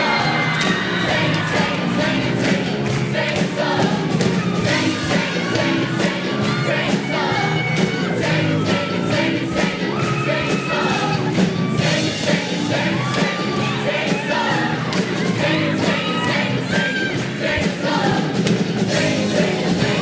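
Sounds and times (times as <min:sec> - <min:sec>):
show choir singing: 0:00.0 - 0:20.0.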